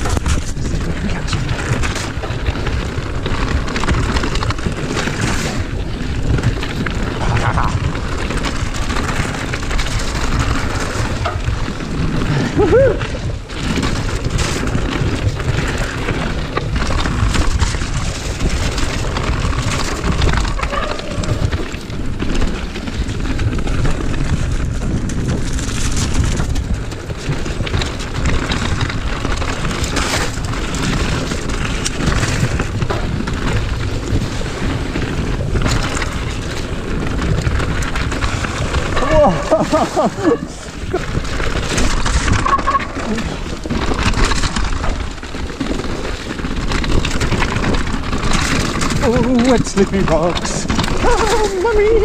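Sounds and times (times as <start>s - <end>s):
bike knocking and rattling: 0.0s - 52.0s
tyres rumbling on gravel: 0.0s - 52.0s
wind buffeting microphone: 0.0s - 52.0s.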